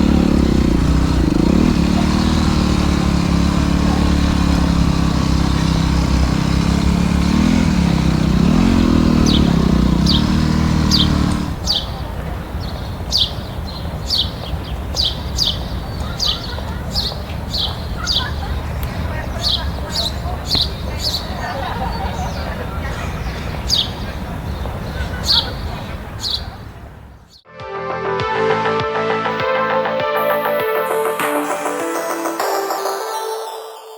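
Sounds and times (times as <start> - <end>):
dirt bike engine idling: 0.0 - 27.4.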